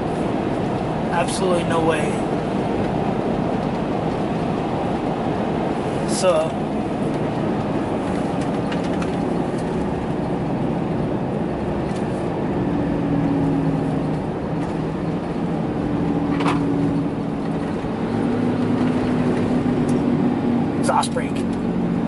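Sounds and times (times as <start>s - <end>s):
engine and tyre drone: 0.0s - 22.0s.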